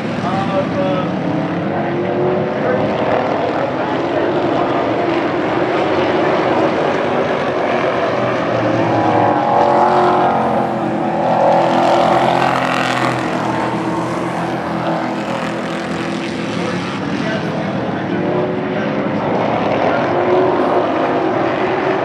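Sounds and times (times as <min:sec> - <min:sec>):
racing truck engines: 0:00.0 - 0:22.0.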